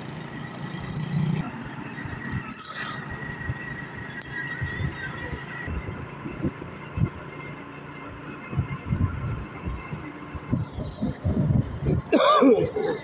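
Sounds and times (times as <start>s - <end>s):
vehicle ride rumble: 0.0s - 13.0s.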